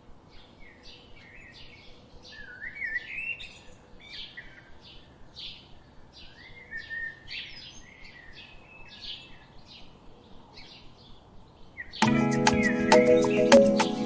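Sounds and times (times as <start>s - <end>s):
songbirds chirping: 0.2s - 14.0s.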